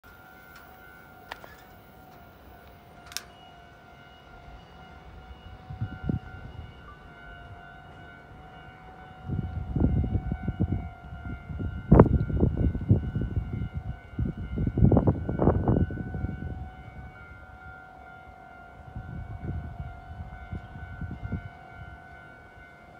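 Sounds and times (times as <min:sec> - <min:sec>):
electric train rumble and clatter: 0:00.0 - 0:22.9
high warning tone: 0:00.0 - 0:22.9.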